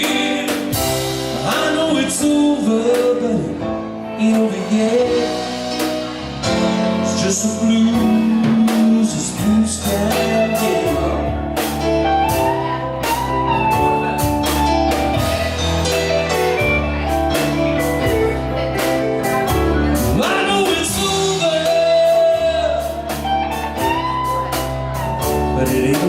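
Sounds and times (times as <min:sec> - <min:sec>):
blues band playing: 0:00.0 - 0:26.0
guitar lead with bent notes: 0:00.0 - 0:26.0
person singing: 0:00.0 - 0:26.0.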